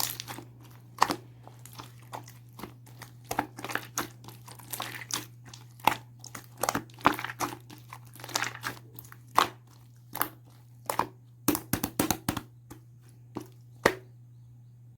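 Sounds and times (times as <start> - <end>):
crinkling and crunching by hand: 0.0 - 14.0.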